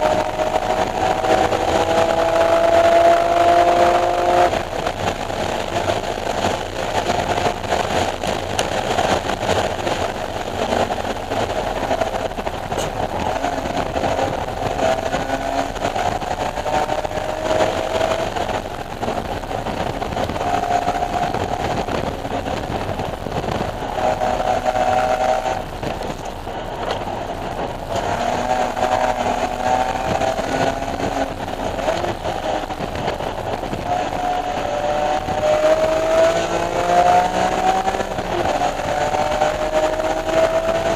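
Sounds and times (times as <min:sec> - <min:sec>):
car engine revving hard: 0:00.0 - 0:40.9
road and wind noise: 0:00.0 - 0:40.9.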